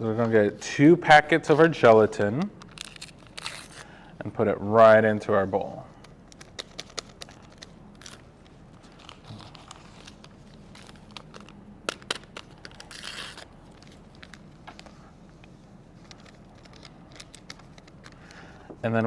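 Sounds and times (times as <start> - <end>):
paper packets crinkling: 1.0 - 4.2, 5.5 - 15.1, 15.8 - 18.6.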